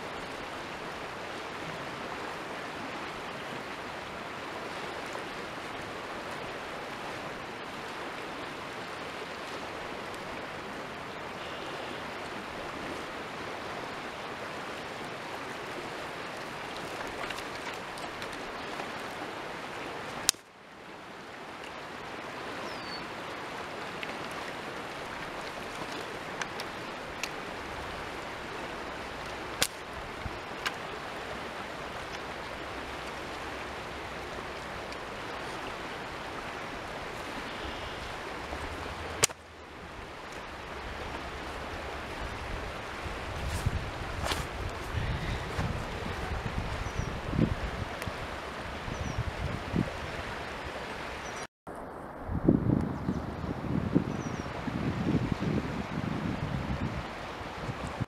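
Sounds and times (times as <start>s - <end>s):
creek water rushing: 0.0s - 52.3s, 53.2s - 58.0s.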